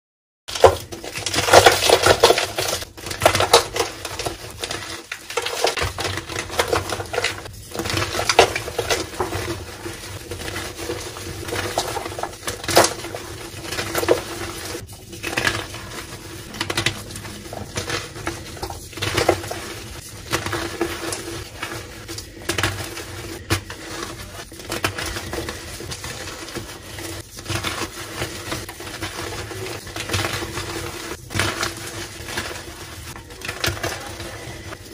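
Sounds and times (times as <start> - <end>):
chalk blocks crunching by hand: 0.5 - 34.9.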